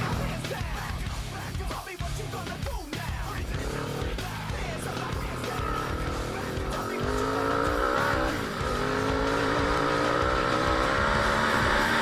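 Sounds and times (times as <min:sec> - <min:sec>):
music: 0:00.0 - 0:12.0
quad engine revving: 0:02.2 - 0:12.0.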